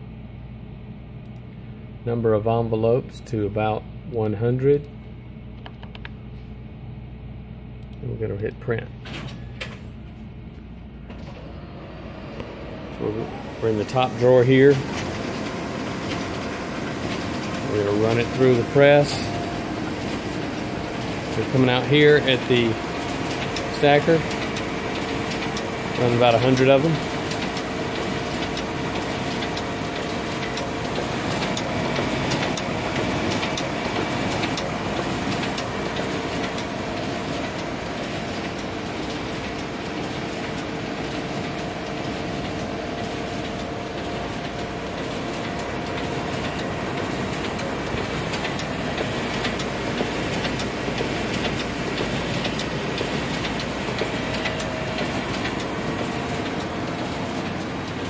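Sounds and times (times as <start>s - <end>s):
printing press whirring: 8.0s - 58.0s.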